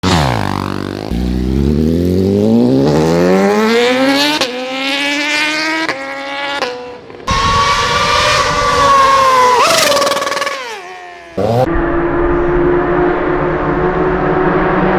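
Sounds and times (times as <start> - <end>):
motorbike engine accelerating: 0.0 - 14.9.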